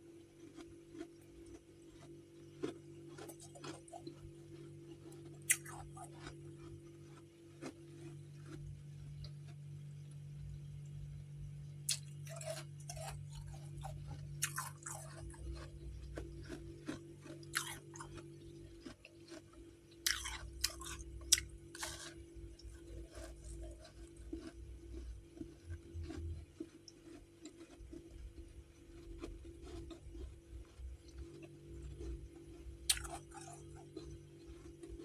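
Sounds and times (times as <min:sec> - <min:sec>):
steady low hum: 0:00.0 - 0:35.0
chewing frost crunches: 0:00.1 - 0:10.6, 0:11.8 - 0:35.0.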